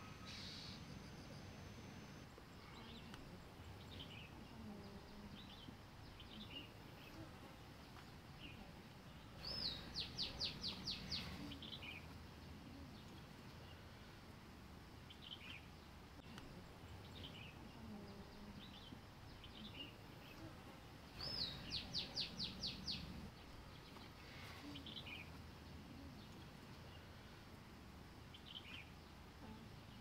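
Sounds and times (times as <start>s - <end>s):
birds chirping faintly: 0.0s - 30.0s
soft background hum: 0.0s - 30.0s.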